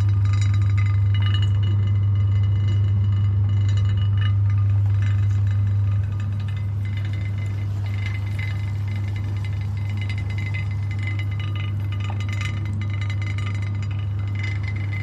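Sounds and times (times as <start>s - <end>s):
rattling and clinking: 0.0s - 15.0s.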